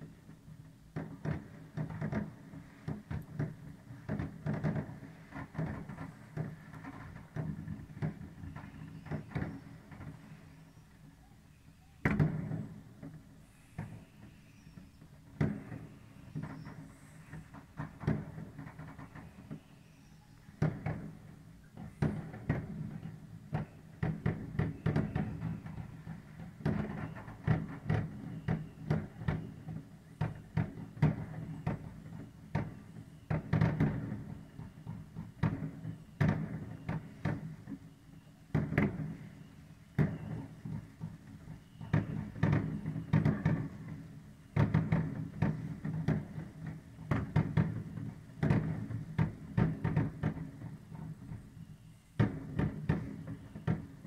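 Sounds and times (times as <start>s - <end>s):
firecracker and rocket bangs: 0.0s - 11.2s, 12.0s - 54.0s.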